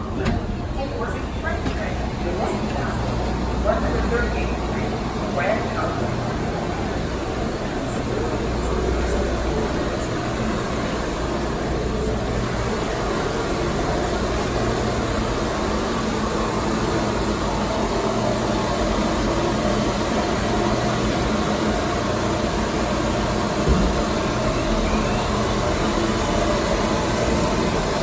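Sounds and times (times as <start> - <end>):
subway train humming: 0.0 - 28.0.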